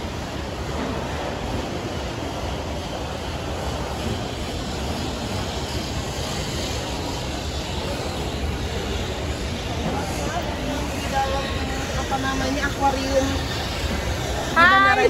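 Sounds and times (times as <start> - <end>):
terminal hall rumble and hiss: 0.0 - 15.0.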